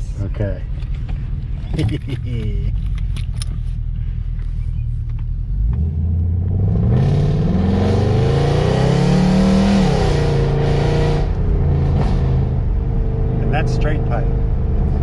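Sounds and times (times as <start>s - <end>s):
car engine accelerating: 0.9s - 15.0s.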